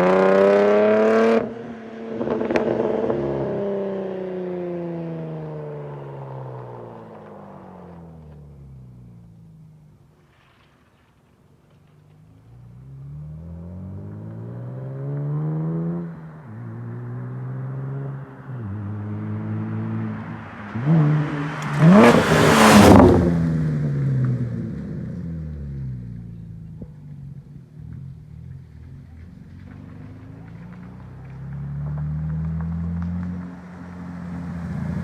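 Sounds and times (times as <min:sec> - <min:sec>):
car engine revving: 0:00.0 - 0:06.0, 0:12.5 - 0:35.0.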